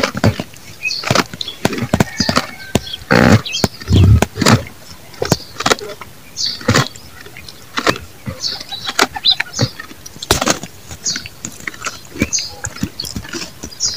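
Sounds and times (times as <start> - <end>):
goat chewing: 0.0 - 13.9.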